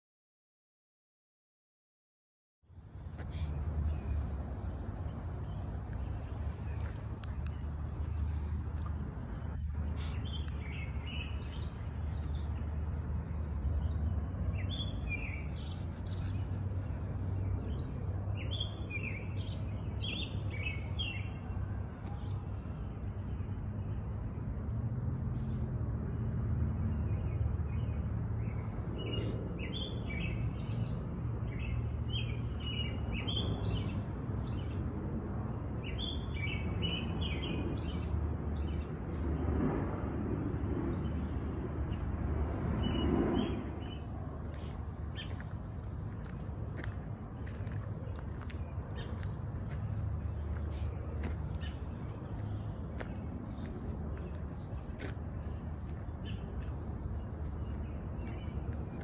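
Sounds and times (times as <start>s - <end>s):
steady low rumble: 2.7s - 59.0s.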